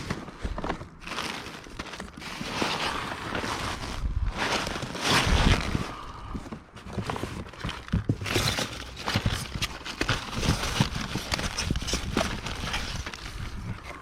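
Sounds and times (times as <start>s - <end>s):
plastic cases clacking: 0.0s - 14.0s.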